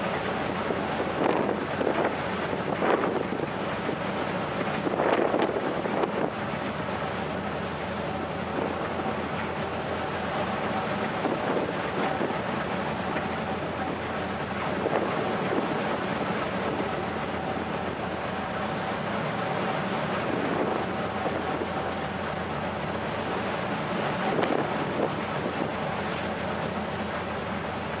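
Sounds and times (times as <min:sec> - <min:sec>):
ferry engine drone: 0:00.0 - 0:28.0
water rushing past hull: 0:00.0 - 0:28.0
wind buffeting microphone: 0:00.1 - 0:06.9, 0:07.7 - 0:18.8, 0:19.5 - 0:28.0.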